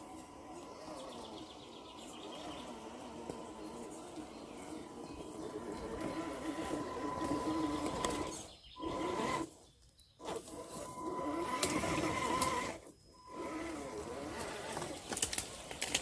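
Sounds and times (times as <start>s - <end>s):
rc car electric motor whining: 0.0s - 9.6s, 10.2s - 15.4s.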